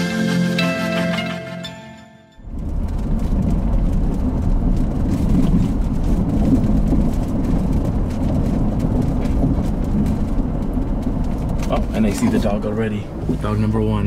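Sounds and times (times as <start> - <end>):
tyres and engine rumble: 0.0 - 14.0.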